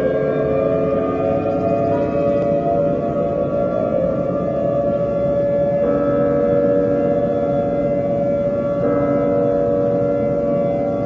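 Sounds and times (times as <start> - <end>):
emergency alert siren: 0.0 - 11.0.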